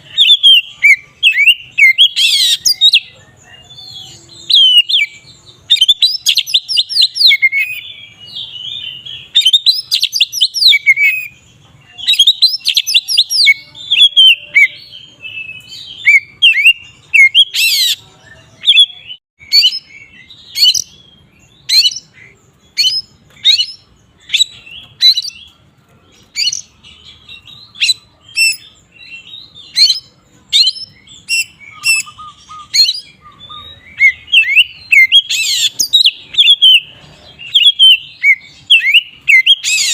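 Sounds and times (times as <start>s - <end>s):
bird singing warbled trills: 0.0s - 39.9s.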